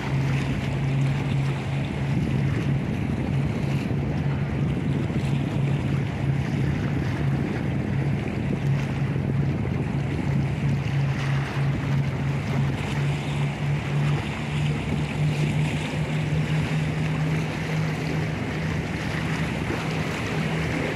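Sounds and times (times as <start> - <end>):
motor droning: 0.0 - 20.9
moving water: 0.0 - 20.9
wind noise on microphone: 0.0 - 20.9.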